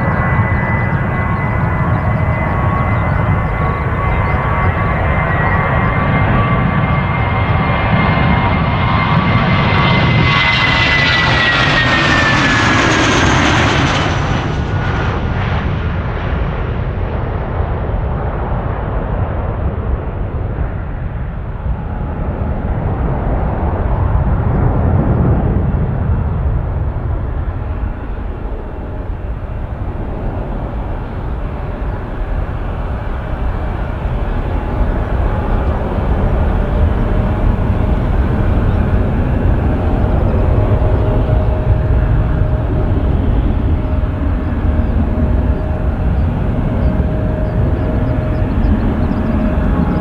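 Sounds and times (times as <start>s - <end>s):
jet engines roaring past: 0.0s - 50.0s.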